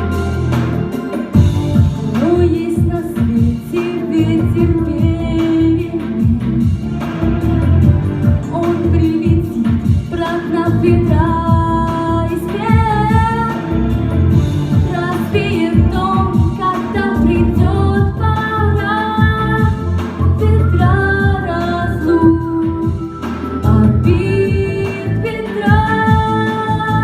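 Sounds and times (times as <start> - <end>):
pop backing track: 0.0 - 27.0
woman singing: 2.0 - 6.8, 8.2 - 14.0, 14.8 - 27.0.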